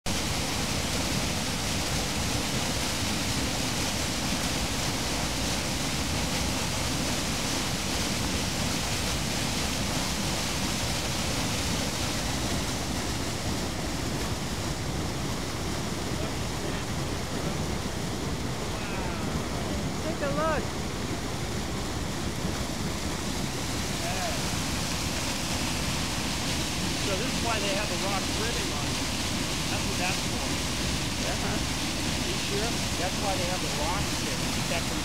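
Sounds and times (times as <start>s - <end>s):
floodwater rushing down concrete walls: 0.1s - 35.0s.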